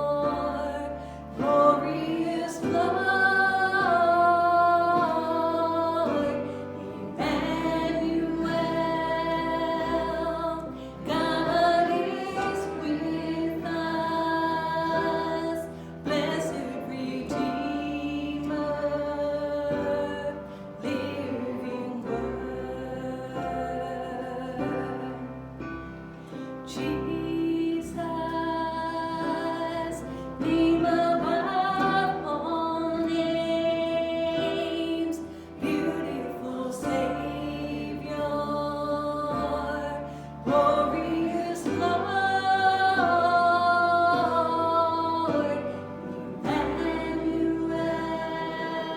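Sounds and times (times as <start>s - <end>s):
instrumental accompaniment with bass: 0.0s - 48.9s
voices singing held notes: 0.0s - 48.9s.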